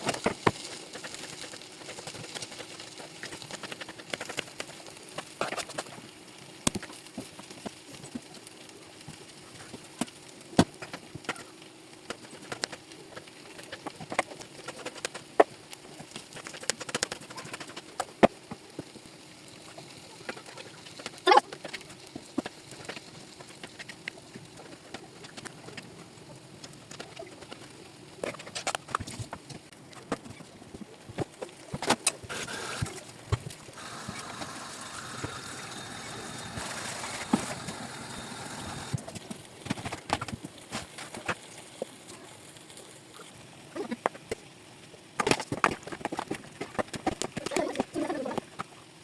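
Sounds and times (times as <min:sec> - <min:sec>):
steady hiss: 0:00.0 - 0:45.0.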